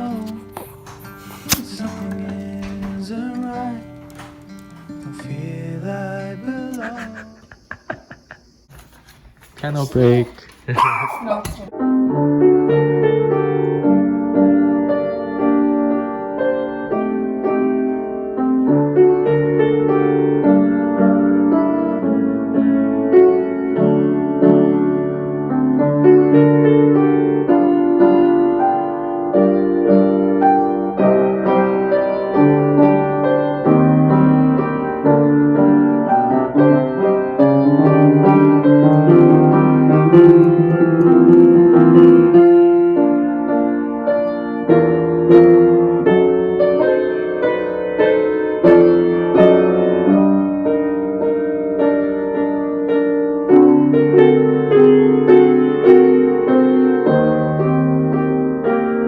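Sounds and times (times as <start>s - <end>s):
piano music: 0.0s - 8.7s, 11.7s - 59.0s.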